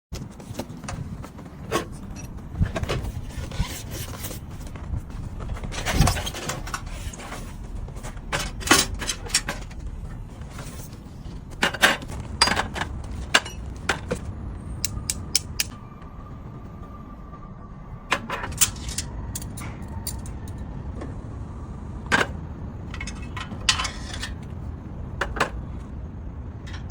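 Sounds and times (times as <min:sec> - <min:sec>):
low rumble: 0:00.2 - 0:26.9.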